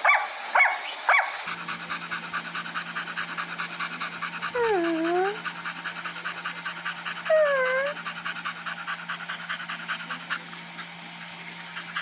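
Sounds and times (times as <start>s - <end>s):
puppy panting and sniffing: 1.1s - 12.0s.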